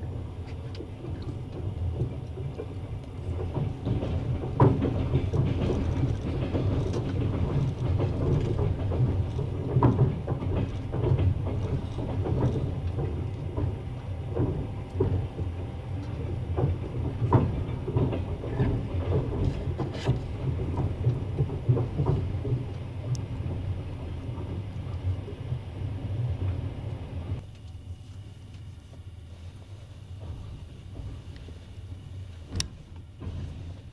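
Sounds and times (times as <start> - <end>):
clatter over rail joints: 0.0 - 27.4
train wheels rumbling: 0.0 - 27.6, 28.4 - 33.9.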